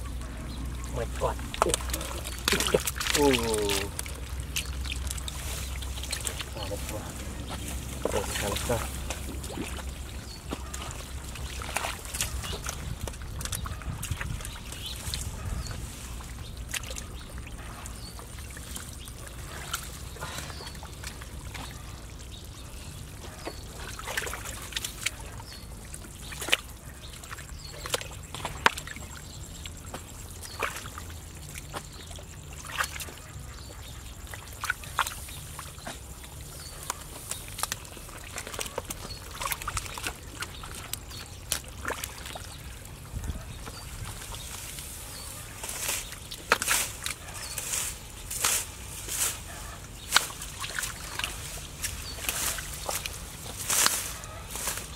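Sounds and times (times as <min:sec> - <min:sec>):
hands squelching in mud: 0:00.1 - 0:54.9.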